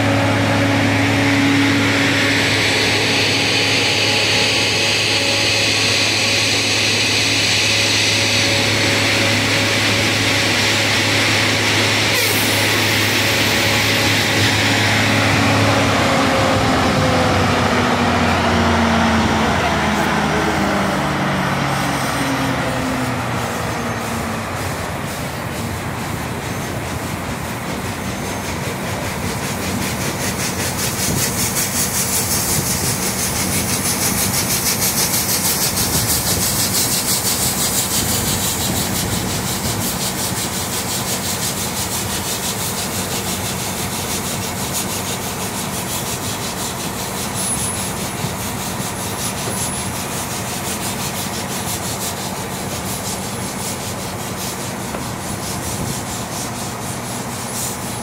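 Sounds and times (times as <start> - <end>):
hiss of escaping steam: 0.0 - 16.4, 21.1 - 58.0
steam locomotive chuffing: 0.0 - 58.0.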